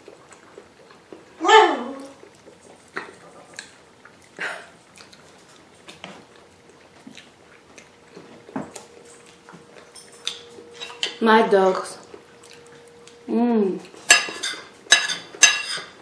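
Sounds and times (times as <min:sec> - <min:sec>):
chewing and wet mouth sounds: 0:00.0 - 0:11.2, 0:12.0 - 0:14.9
faint steady hum: 0:00.0 - 0:16.0.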